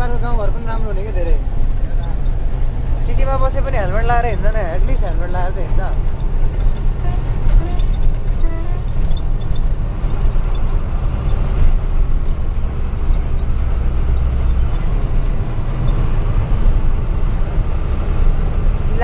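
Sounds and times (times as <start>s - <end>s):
truck diesel engine rumble: 0.0s - 19.0s.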